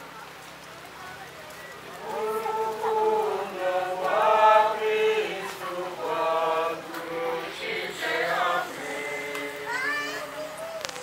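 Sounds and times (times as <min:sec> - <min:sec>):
voices chanting unaccompanied: 0:01.7 - 0:11.0.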